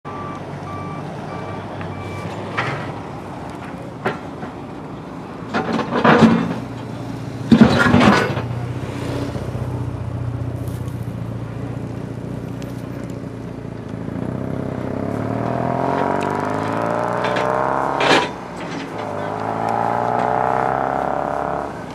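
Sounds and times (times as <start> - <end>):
engine running: 0.1 - 21.9.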